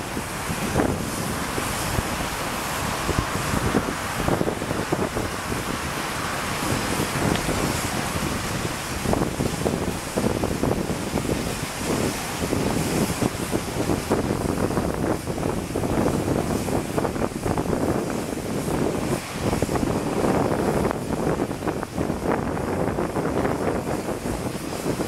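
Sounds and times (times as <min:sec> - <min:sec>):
steady rushing noise: 0:00.0 - 0:25.0
wind buffeting microphone: 0:00.0 - 0:25.0.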